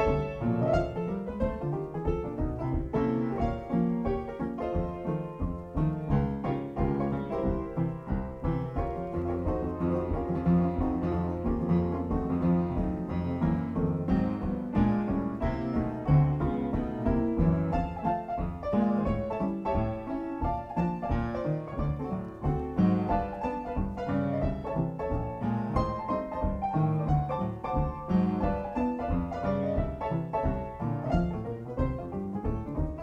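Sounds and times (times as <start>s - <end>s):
fast piano music: 0.0s - 33.0s.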